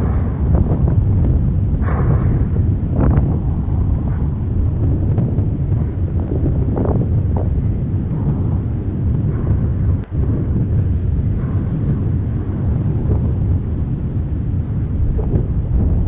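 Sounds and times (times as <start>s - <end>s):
low outdoor rumble: 0.0s - 16.0s
wind buffeting microphone: 0.0s - 16.0s.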